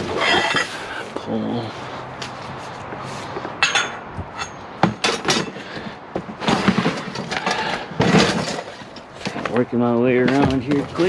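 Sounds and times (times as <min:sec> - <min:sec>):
scrap rummaging and clattering: 0:00.0 - 0:00.9, 0:02.2 - 0:11.0.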